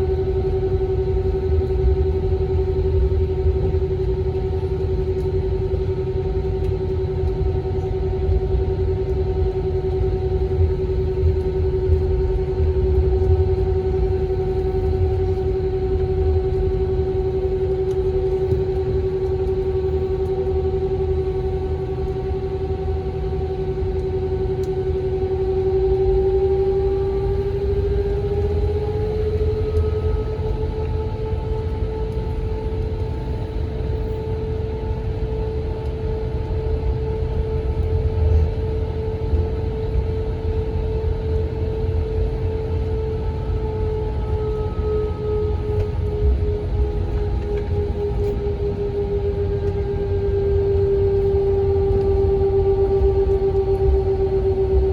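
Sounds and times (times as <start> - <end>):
jet engines humming: 0.0 - 54.9
uneven low rumble: 0.0 - 54.9.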